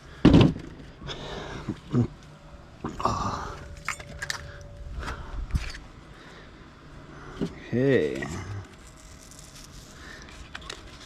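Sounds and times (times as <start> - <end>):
faint steady tone: 1.0 - 10.4.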